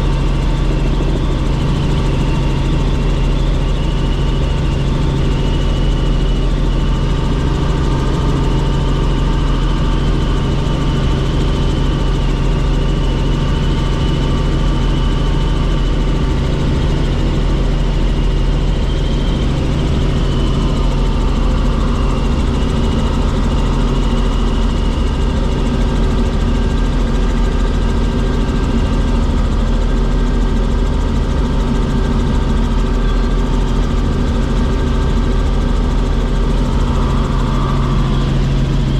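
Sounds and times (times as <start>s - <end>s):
helicopter engine and rotor drone: 0.0s - 38.9s
high turbine whine: 0.0s - 38.9s.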